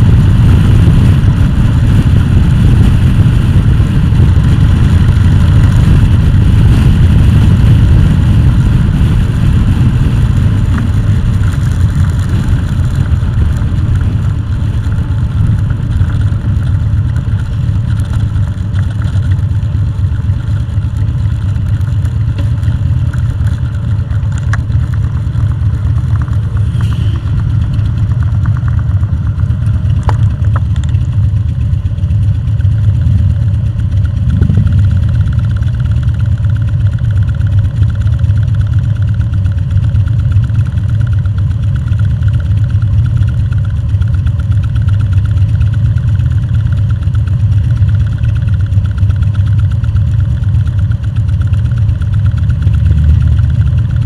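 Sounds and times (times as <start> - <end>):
vehicle engine rumbling: 0.0 - 54.0
wind and road noise: 0.0 - 54.0.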